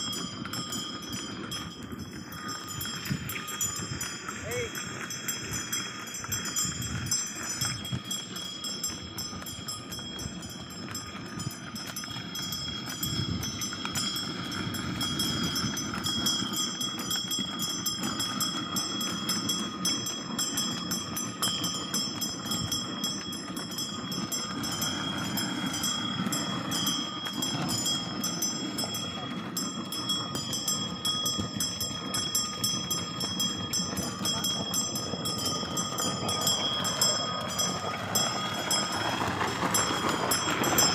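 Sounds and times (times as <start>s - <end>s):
cart wheels rattling rumble: 0.0s - 40.9s
hooves clattering: 0.0s - 40.9s.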